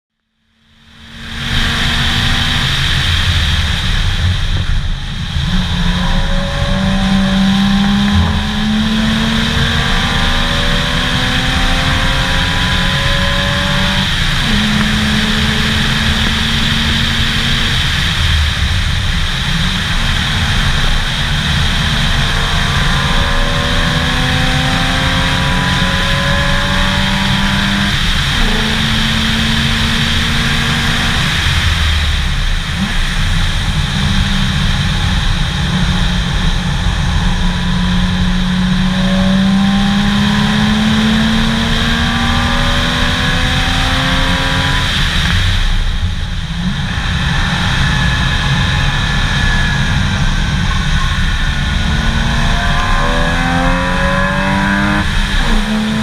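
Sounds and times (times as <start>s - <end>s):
wind and road noise: 0.3s - 56.0s
car engine pulling hard: 0.7s - 56.0s.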